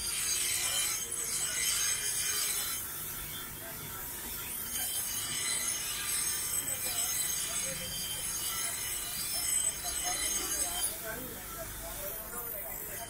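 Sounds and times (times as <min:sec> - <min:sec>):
bench grinder grinding knife blade: 0:00.0 - 0:13.0.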